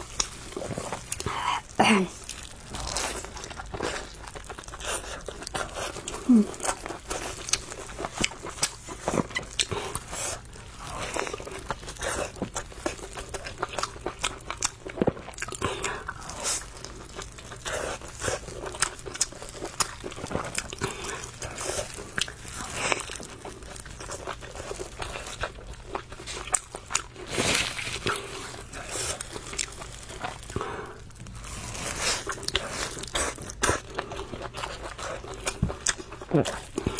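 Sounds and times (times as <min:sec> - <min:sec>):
chewing and crunching: 0:00.0 - 0:36.9.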